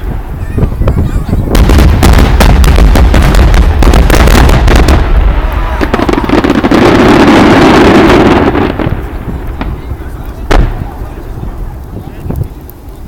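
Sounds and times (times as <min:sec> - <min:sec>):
fireworks booming: 0:00.0 - 0:12.9.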